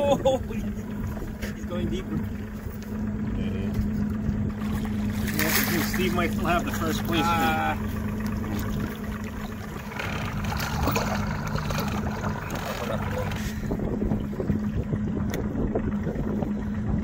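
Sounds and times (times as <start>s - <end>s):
boat engine idling: 0.0s - 17.0s
water splashing at hull: 0.0s - 17.0s.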